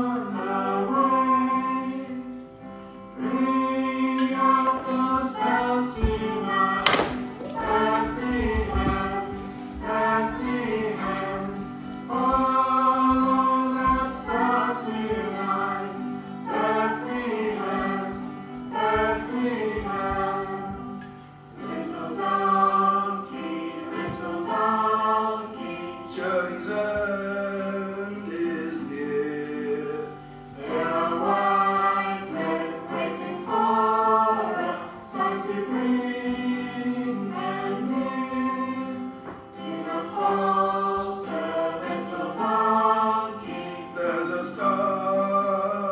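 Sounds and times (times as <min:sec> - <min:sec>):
choir singing: 0:00.0 - 0:45.9
musical accompaniment: 0:00.0 - 0:45.9.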